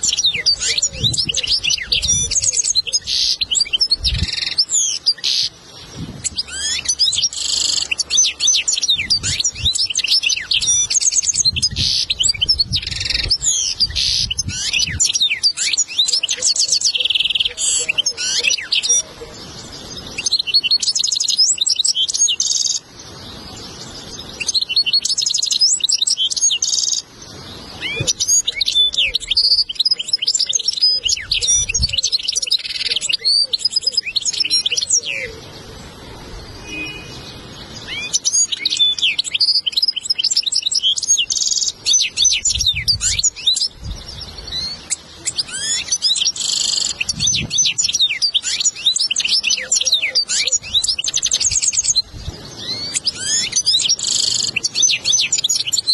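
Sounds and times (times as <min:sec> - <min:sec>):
goldfinch twittering song: 0:00.0 - 0:55.9.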